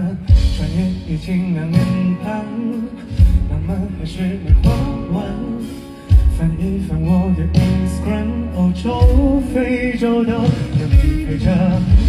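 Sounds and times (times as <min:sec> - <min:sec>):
heavy low drum beats: 0:00.0 - 0:12.0
live pop band music: 0:00.0 - 0:12.0.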